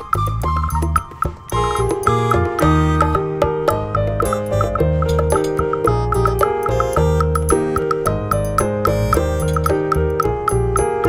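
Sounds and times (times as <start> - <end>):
bouncy mallet percussion tune: 0.0 - 11.0.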